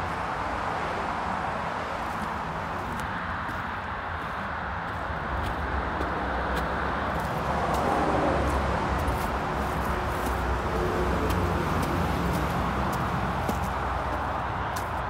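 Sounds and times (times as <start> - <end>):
motorway traffic rushing: 0.0 - 15.0
faint footsteps on concrete steps: 2.0 - 15.0.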